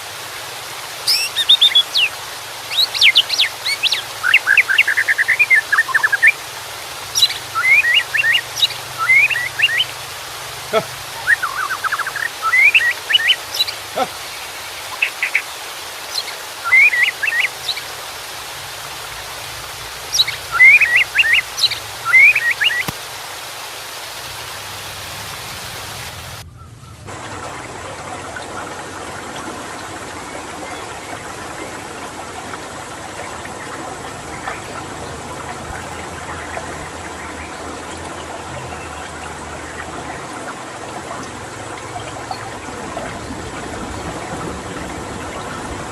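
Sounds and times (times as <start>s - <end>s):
running water: 0.0s - 45.9s.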